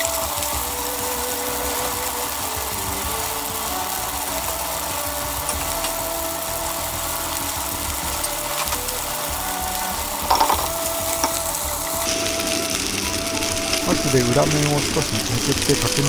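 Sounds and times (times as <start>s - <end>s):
noodles sizzling in frying pan: 0.0s - 16.0s.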